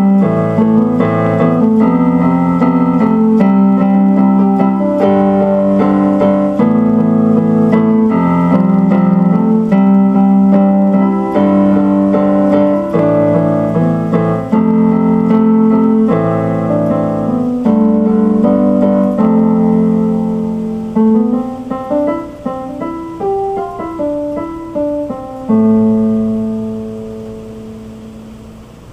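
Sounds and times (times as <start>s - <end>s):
keyboard piano music: 0.0s - 28.9s.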